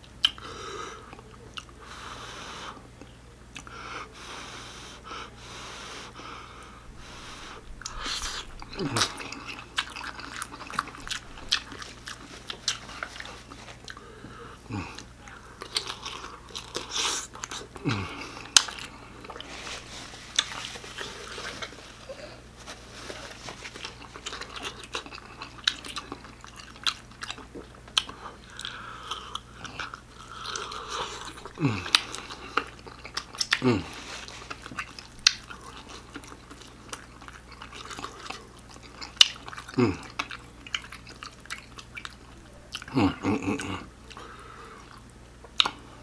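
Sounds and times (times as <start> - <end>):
person chewing with wet smacks: 0.0 - 0.5, 1.1 - 1.8, 3.0 - 3.7, 6.9 - 14.1, 14.7 - 19.6, 23.1 - 46.0.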